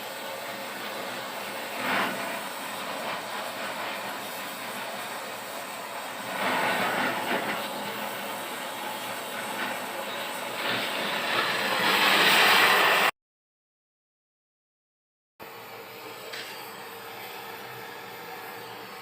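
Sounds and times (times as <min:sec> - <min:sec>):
metal lathe cutting steel: 0:00.0 - 0:13.1, 0:15.6 - 0:19.0.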